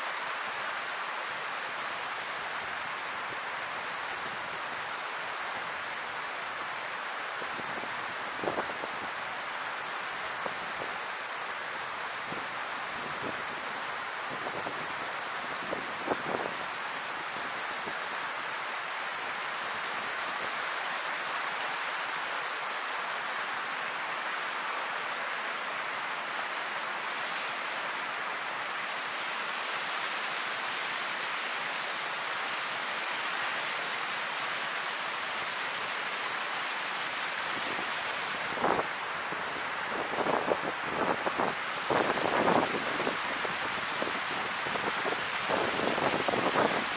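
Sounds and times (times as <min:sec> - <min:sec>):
river water rushing over edge: 0:00.0 - 0:46.9.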